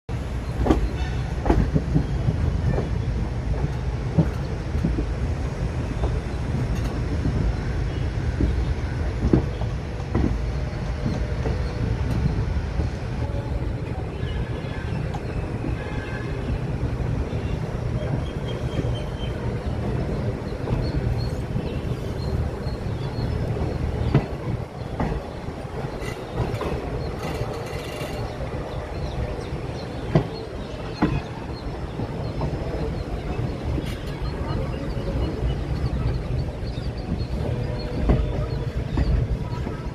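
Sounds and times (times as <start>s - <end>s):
train coaches rumbling: 0.1s - 39.9s
wheels clacking over rail joints: 0.1s - 39.9s.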